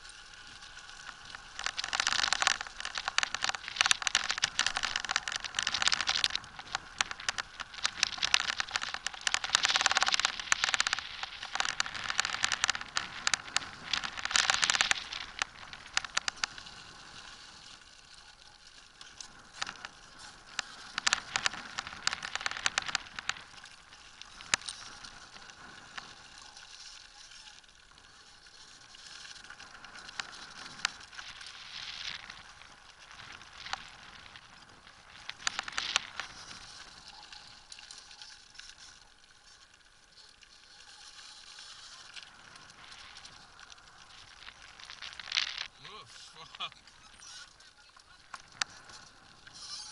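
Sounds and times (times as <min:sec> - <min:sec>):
wheels rolling over gritty pavement: 0:00.0 - 0:49.9.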